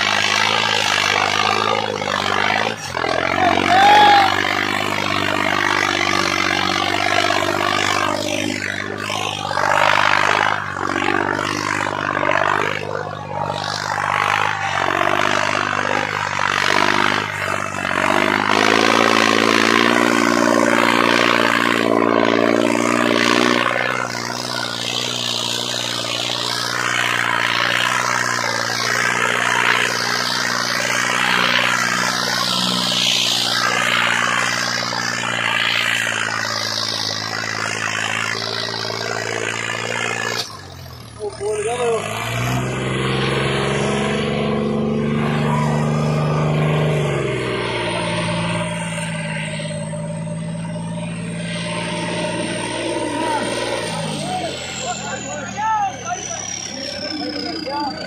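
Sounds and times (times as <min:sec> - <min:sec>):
tractor engine labouring: 0:00.0 - 0:58.0.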